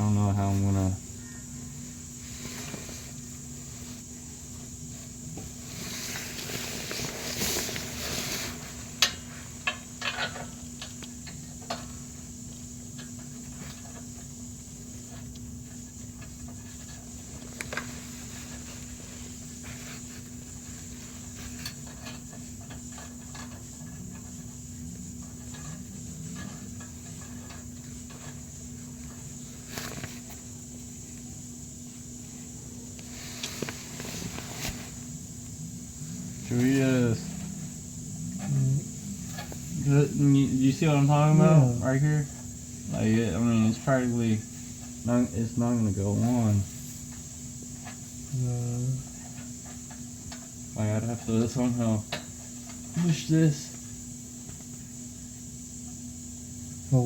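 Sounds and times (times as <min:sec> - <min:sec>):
high whine: 0:00.0 - 0:54.9
steady low hum: 0:00.0 - 0:57.0
rustling: 0:00.3 - 0:56.8.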